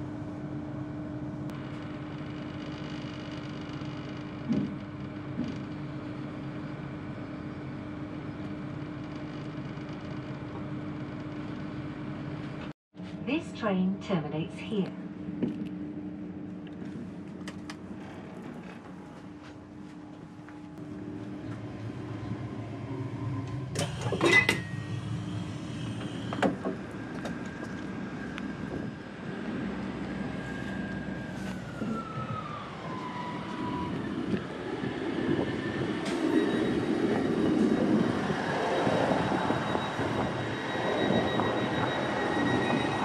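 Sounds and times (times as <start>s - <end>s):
train rumbling: 4.1s - 43.0s.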